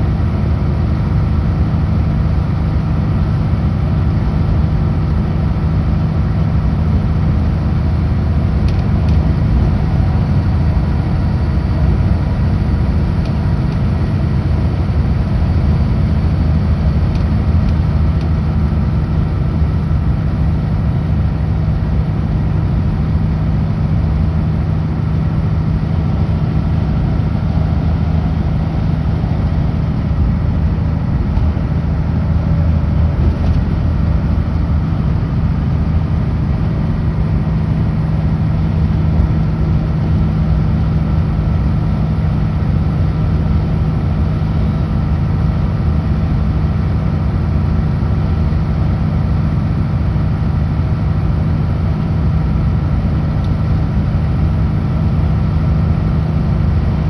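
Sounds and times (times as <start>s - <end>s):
road noise: 0.0s - 57.0s
truck diesel engine cruising: 0.0s - 57.0s.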